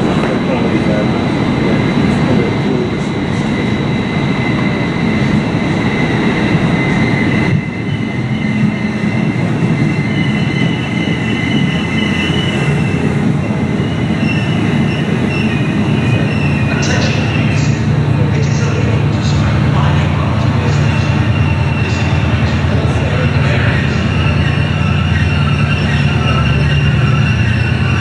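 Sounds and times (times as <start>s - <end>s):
high-pitched squealing: 0.0s - 28.0s
train rumbling on track: 0.0s - 28.0s.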